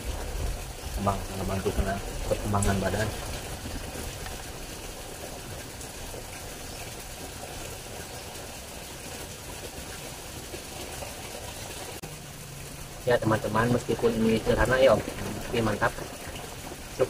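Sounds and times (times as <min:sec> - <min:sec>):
even outdoor hiss: 0:00.0 - 0:17.0.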